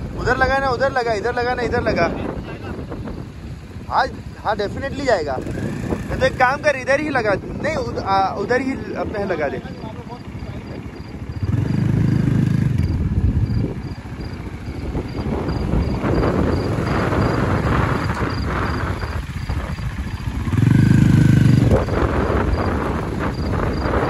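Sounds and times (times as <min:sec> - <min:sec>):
steady rushing noise: 0:00.0 - 0:24.0
motorcycle engine revving hard: 0:01.6 - 0:24.0.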